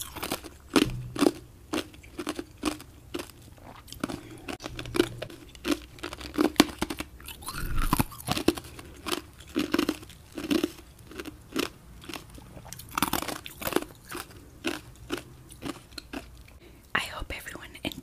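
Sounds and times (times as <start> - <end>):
person chewing food: 0.0 - 16.7.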